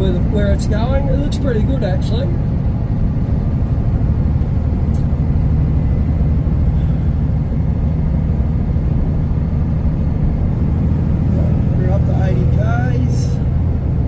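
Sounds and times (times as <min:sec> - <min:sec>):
diesel truck engine droning: 0:00.0 - 0:14.0
road noise: 0:00.0 - 0:14.0.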